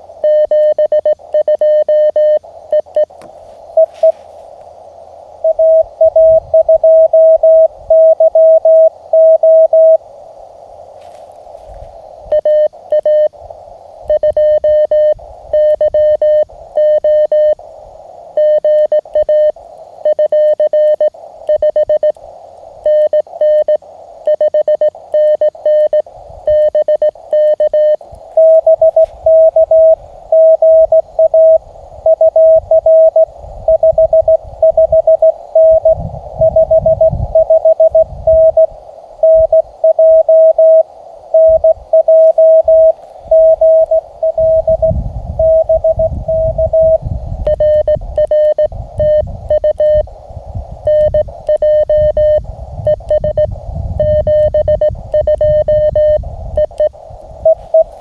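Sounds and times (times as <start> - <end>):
receiver hiss: 0.0 - 58.0
morse code tone: 0.2 - 4.2, 5.4 - 10.0, 12.2 - 13.4, 14.1 - 17.6, 18.4 - 22.2, 22.8 - 50.1, 50.8 - 58.0.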